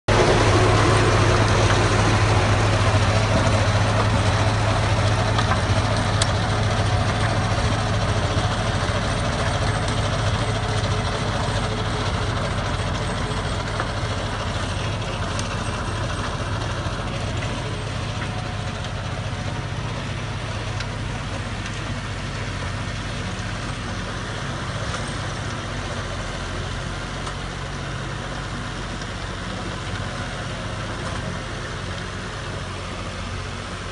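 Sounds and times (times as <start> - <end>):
rotary tiller tilling soil: 0.1 - 33.9
tractor engine running: 0.1 - 33.9.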